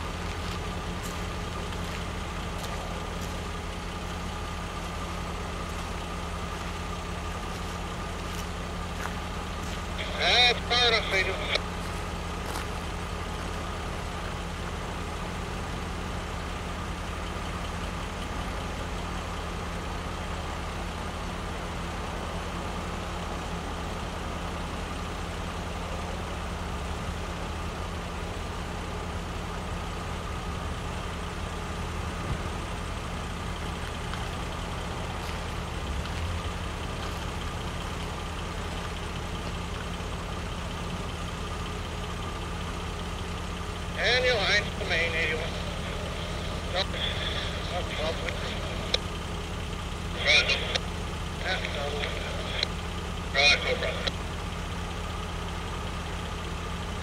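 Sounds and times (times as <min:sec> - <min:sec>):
diesel locomotive idling: 0:00.0 - 0:57.0.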